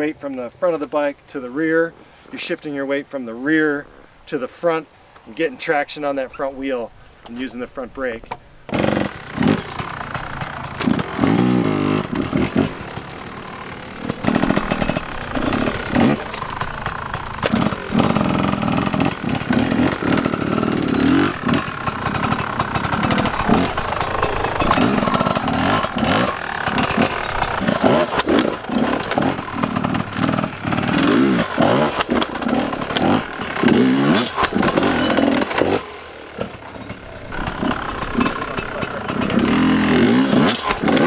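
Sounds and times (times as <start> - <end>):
dirt bike engine revving: 5.9 - 41.0.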